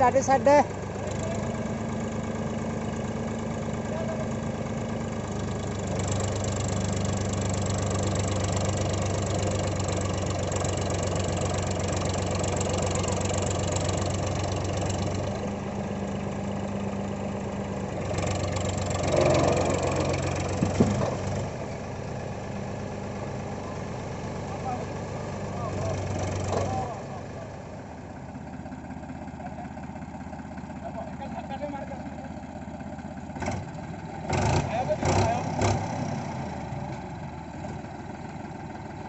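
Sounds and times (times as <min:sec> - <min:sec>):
tractor diesel engine revving: 0:00.0 - 0:39.0.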